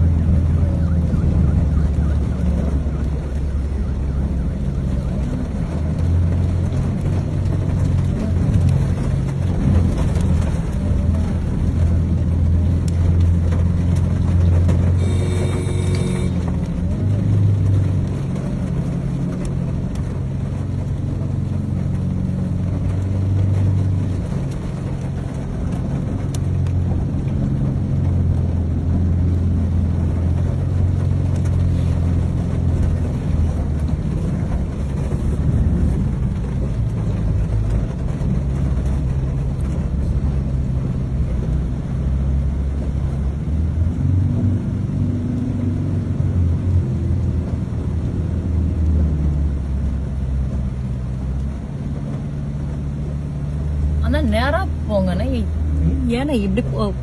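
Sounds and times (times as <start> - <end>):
floodwater washing around vehicle: 0.0 - 57.0
low engine hum: 0.0 - 57.0.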